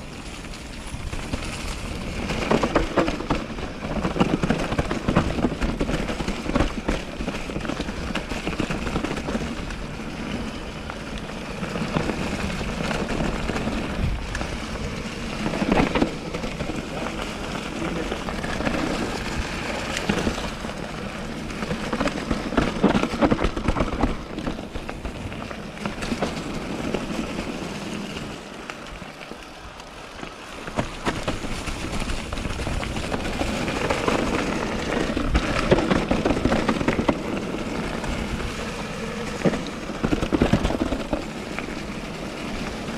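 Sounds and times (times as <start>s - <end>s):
bike rattling over roots: 0.0s - 42.9s
bike tyres crackling through leaves: 0.0s - 42.9s.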